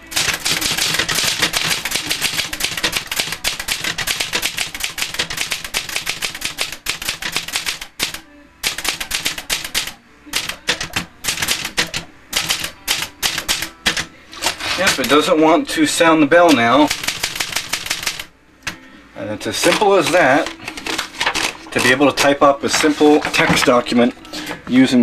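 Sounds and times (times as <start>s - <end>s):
manual typewriter typing: 0.0s - 15.3s, 16.4s - 18.3s, 19.6s - 23.8s.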